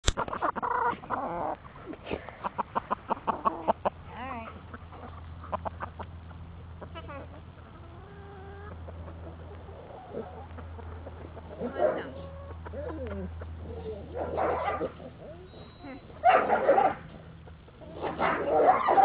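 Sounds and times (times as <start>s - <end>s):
chickens clucking: 0.0s - 19.0s
faint low hum: 0.2s - 19.0s.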